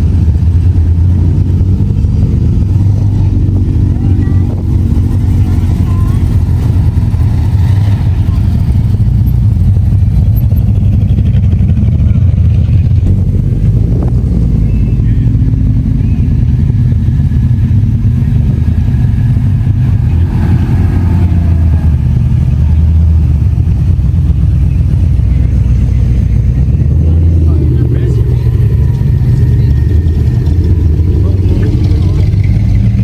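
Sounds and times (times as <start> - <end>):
car engines rumbling: 0.0 - 33.0.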